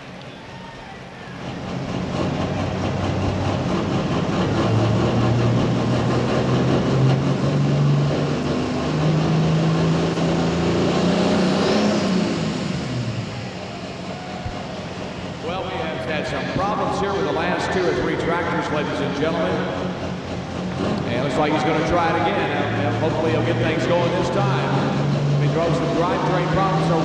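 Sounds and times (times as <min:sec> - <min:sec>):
tractor diesel engine revving: 0:01.0 - 0:27.0.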